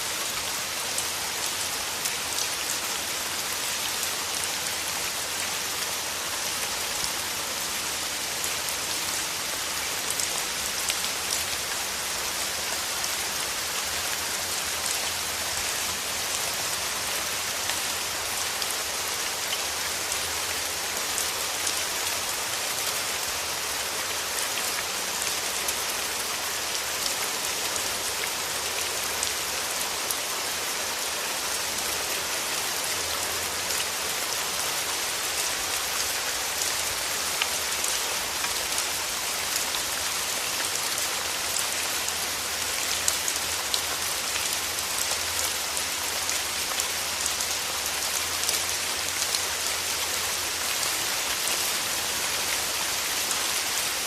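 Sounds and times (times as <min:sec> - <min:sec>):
rain hissing through forest trees: 0:00.0 - 0:54.0.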